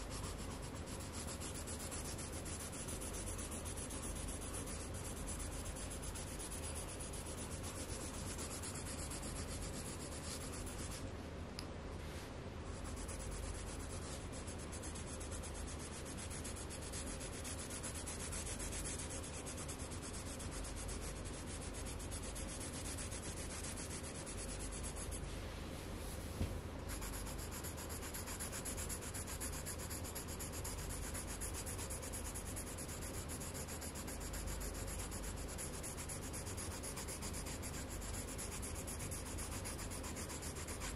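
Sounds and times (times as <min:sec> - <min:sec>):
pencil scratching on paper: 0:00.0 - 0:11.0, 0:12.7 - 0:25.3, 0:26.9 - 0:40.9.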